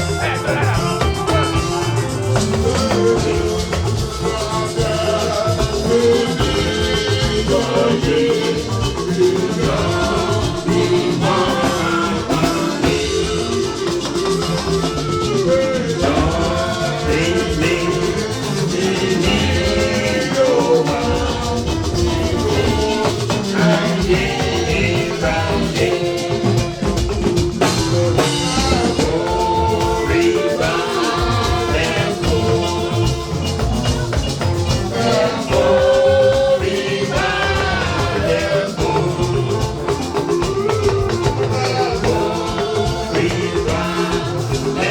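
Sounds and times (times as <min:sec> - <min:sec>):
drums: 0:00.0 - 0:44.9
shakers: 0:00.0 - 0:44.9
voices singing a hymn: 0:00.0 - 0:44.9.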